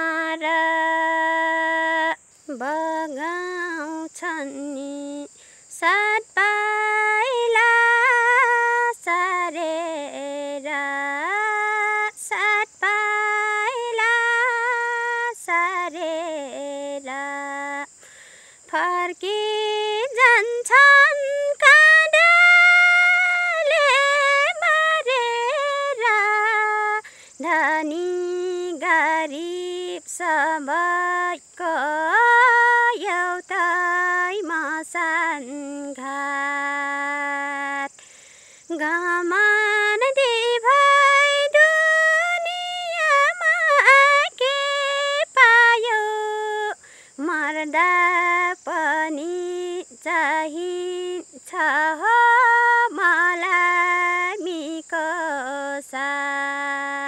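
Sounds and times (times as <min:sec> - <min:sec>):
woman singing unaccompanied: 0:00.0 - 0:57.0.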